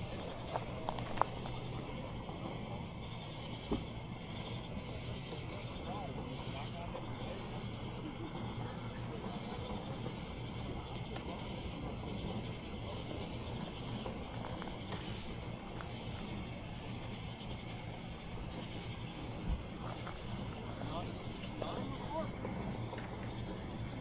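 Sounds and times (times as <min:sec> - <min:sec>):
insects trilling: 0:00.0 - 0:24.0
low steady rumble: 0:00.0 - 0:24.0.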